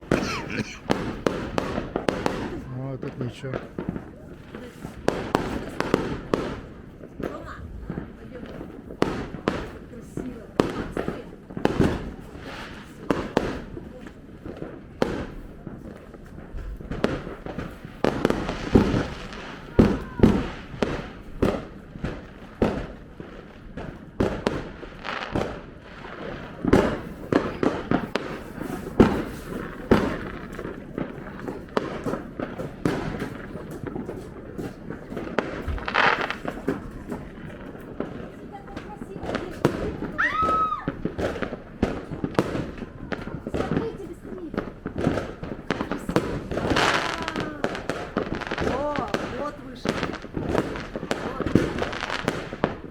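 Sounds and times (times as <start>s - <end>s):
fireworks banging and popping: 0.0s - 52.9s.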